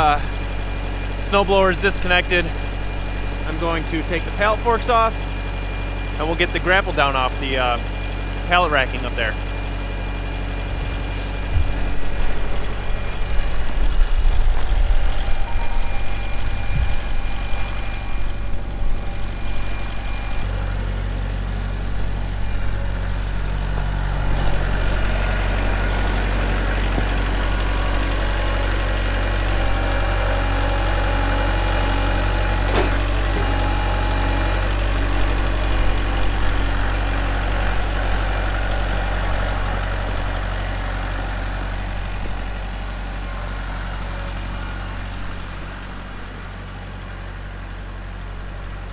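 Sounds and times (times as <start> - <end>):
tractor diesel engine idling: 0.0 - 48.9
uneven low rumbling: 0.0 - 48.9.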